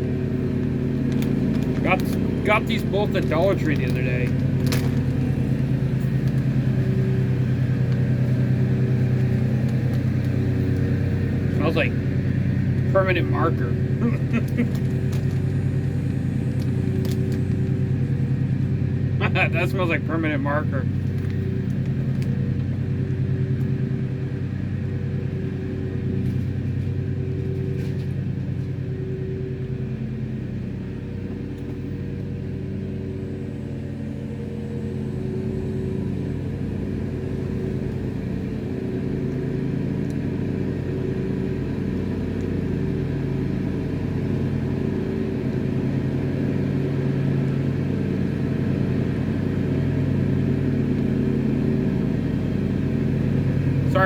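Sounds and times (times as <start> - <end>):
lawnmower engine running: 0.0 - 54.0.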